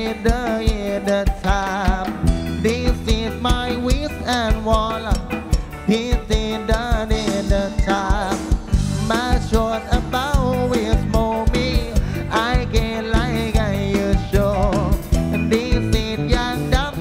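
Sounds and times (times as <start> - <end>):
drums on quick beat: 0.0 - 17.0
live band playing upbeat song: 0.0 - 17.0.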